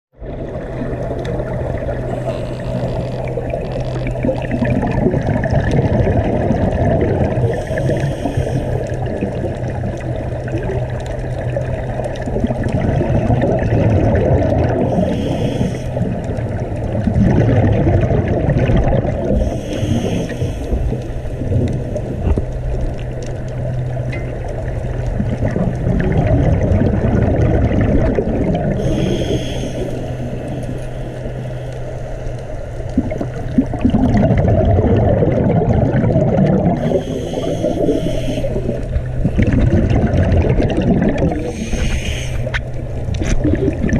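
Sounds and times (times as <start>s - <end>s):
underwater rumble of moving water: 0.1s - 43.9s
steady low hum: 0.2s - 43.9s
hissing bubble bursts: 0.3s - 22.4s, 25.1s - 31.1s, 32.9s - 43.9s.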